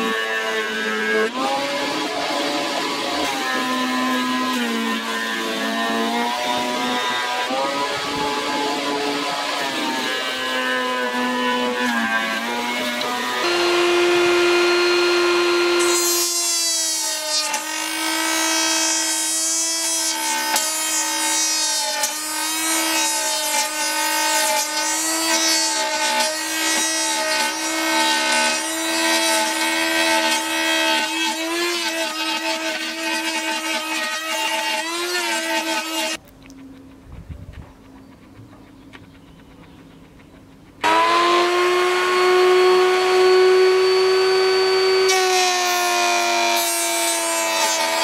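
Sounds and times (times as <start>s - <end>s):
table saw whining: 0.0s - 36.2s, 40.8s - 48.0s.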